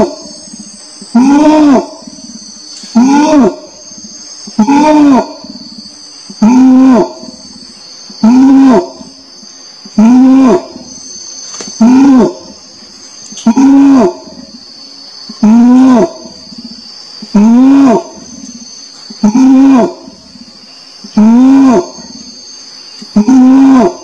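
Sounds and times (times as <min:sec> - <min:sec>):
insect buzz: 0:00.0 - 0:24.0
orangutan calling: 0:00.0 - 0:24.0.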